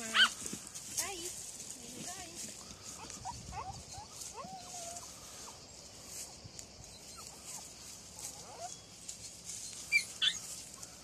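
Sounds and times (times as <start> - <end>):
rustling of dry leaves: 0.0 - 11.0.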